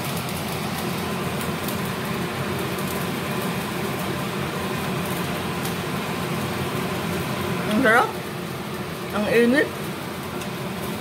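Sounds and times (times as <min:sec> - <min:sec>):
fan humming and whooshing: 0:00.0 - 0:11.0.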